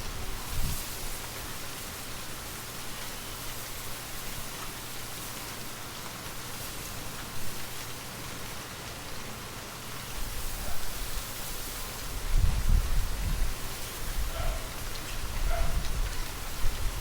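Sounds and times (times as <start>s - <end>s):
gentle rain: 0.0s - 17.0s
light wind: 0.0s - 17.0s.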